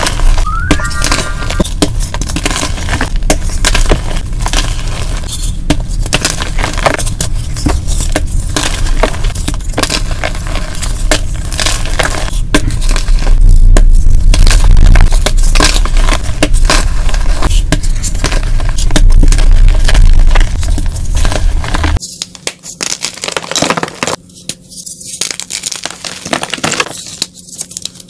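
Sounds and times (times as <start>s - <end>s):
chalk crunching and crumbling: 0.0s - 28.0s.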